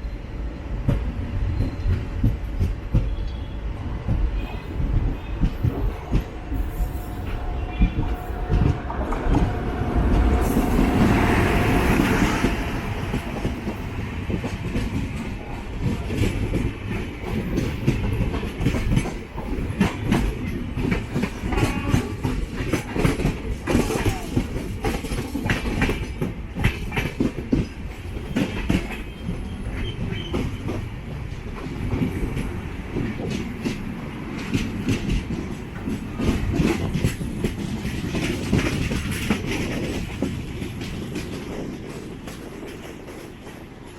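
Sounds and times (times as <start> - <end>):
train wheels clattering on rails: 0.7 - 43.9.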